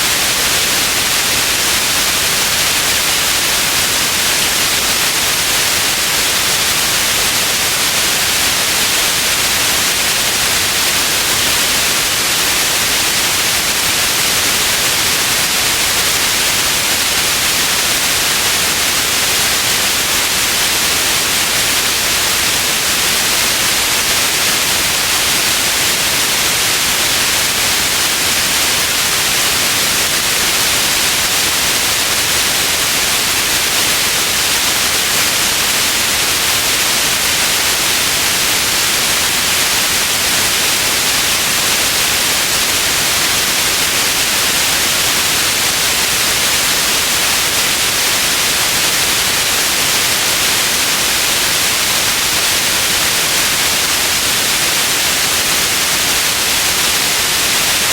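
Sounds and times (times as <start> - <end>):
white noise hiss: 0.0 - 57.9.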